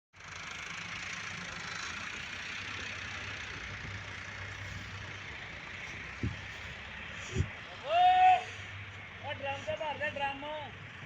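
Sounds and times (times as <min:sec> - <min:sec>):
engine running steadily: 0:00.2 - 0:11.0.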